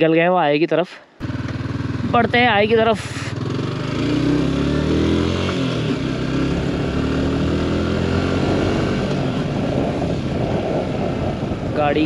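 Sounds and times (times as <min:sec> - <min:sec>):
motorcycle engine accelerating: 0:01.2 - 0:12.0.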